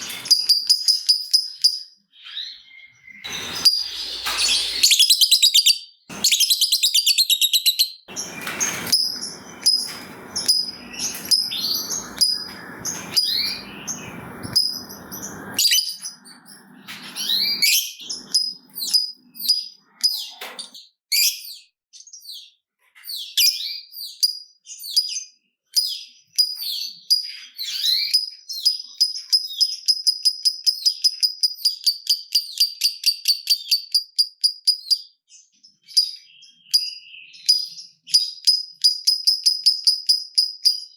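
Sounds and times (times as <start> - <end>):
lovebird chirping and trilling: 0.0 - 40.9.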